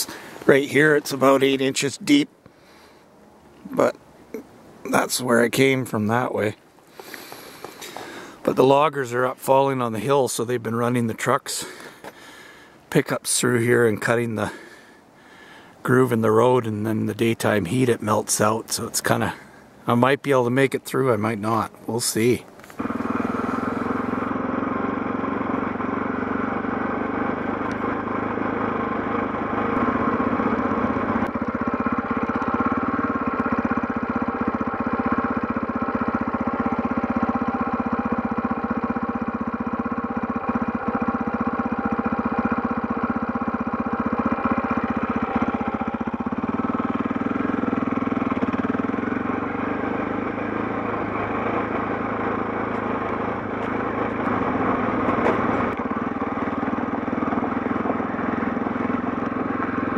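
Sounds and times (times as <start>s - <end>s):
motorcycle engine running: 0.0s - 3.0s, 3.6s - 15.7s, 21.1s - 59.9s.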